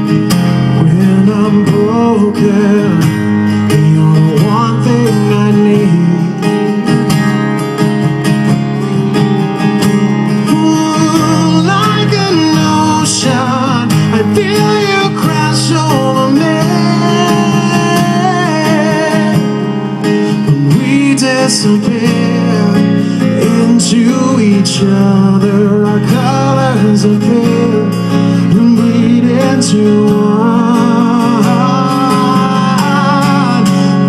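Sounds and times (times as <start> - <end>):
man singing: 0.0 - 7.0, 10.3 - 34.0
guitars holding sustained chords: 0.0 - 34.0
rock band playing a slow ballad: 0.0 - 34.0.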